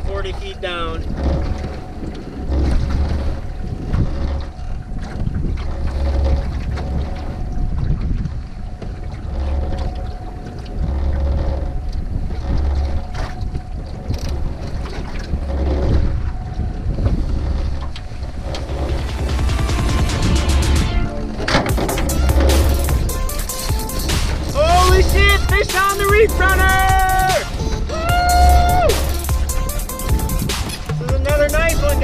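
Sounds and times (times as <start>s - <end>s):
wind buffeting microphone: 0.0s - 20.2s, 20.9s - 32.0s
boat motor humming: 0.0s - 32.0s.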